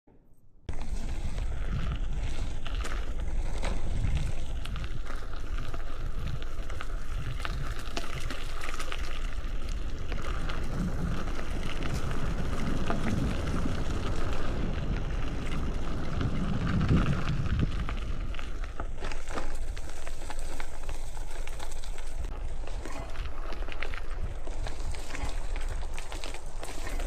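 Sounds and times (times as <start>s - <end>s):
bike clicks and rattles: 0.7s - 27.0s
tyre rumble on dirt: 0.7s - 27.0s
wind buffeting microphone: 0.7s - 27.0s.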